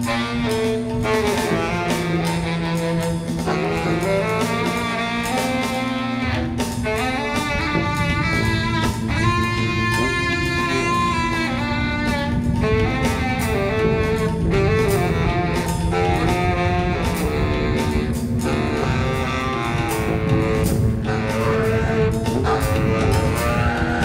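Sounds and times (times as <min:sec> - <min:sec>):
irregular percussion hits: 0:00.0 - 0:24.0
saxophone sustained notes: 0:00.0 - 0:24.0.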